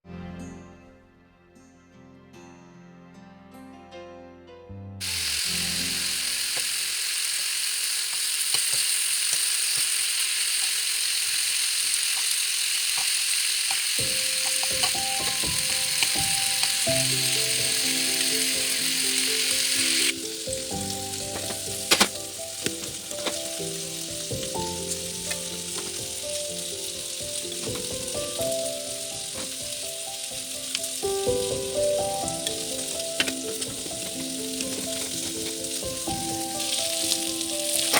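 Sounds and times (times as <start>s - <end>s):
gentle background music: 0.0s - 6.6s, 14.0s - 37.9s
food sizzling in a pan: 5.0s - 37.9s.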